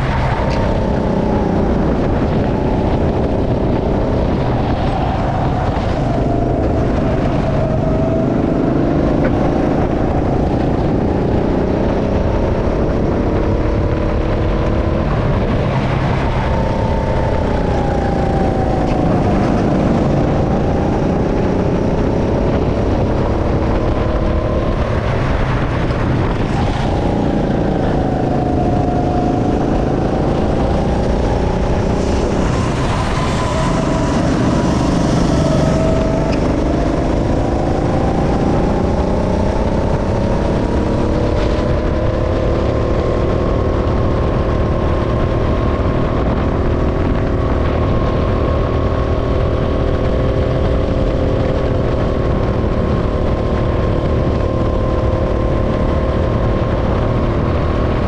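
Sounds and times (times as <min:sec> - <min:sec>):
go-kart engine accelerating: 0:00.0 - 0:58.0.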